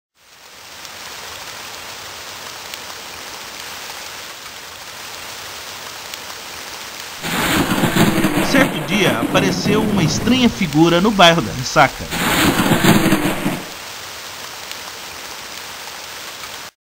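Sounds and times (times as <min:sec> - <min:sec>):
steady rain hiss: 0:00.2 - 0:16.8.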